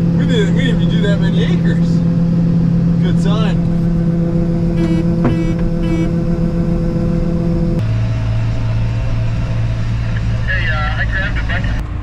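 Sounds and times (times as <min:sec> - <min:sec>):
combine harvester engine and auger: 0:00.0 - 0:12.0
tractor engine drone: 0:00.0 - 0:12.0.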